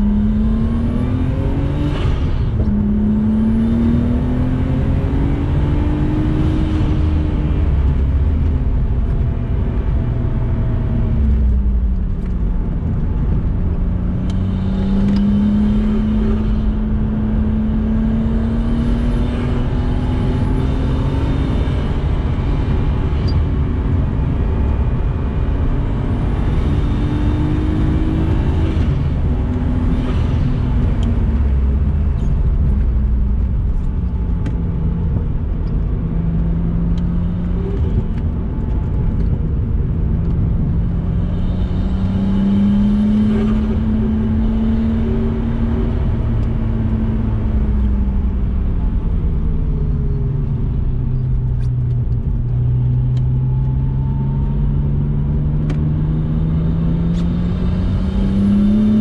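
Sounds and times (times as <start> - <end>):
car engine revving: 0.0 - 59.0
road noise rumble: 0.0 - 59.0.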